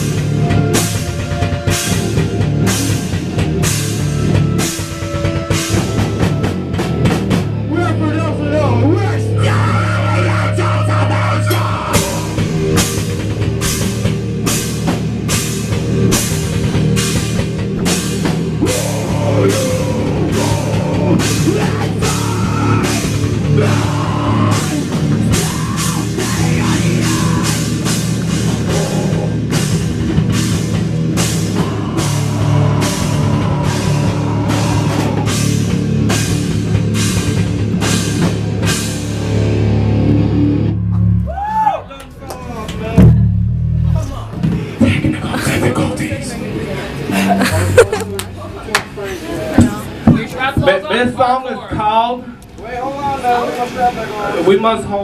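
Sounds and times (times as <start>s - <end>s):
drum kit steady beat: 0.0s - 8.2s, 11.4s - 41.8s, 42.4s - 52.0s
distorted electric guitars: 0.0s - 48.4s
bass guitar: 0.0s - 55.0s.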